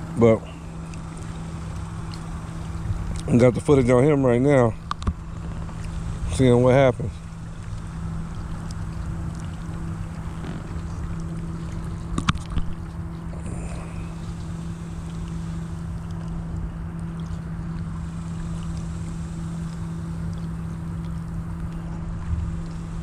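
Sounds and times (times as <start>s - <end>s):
low hum: 0.0s - 23.0s
wind rumbling on microphone: 0.0s - 23.0s.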